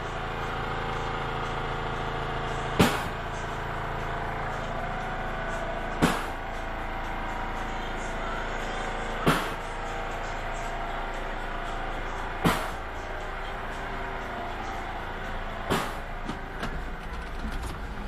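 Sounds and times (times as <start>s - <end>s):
heavy machinery drone: 0.0s - 18.0s.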